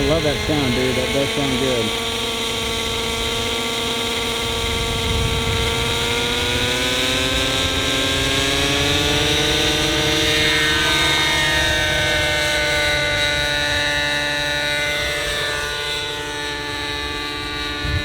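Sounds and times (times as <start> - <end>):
model helicopter engine and rotor: 0.0 - 18.0.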